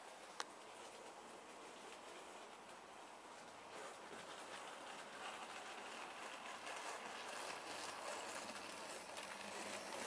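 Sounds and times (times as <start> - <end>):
faint ticking of wheels: 0.0 - 10.0
model train motor whirring: 0.0 - 10.0.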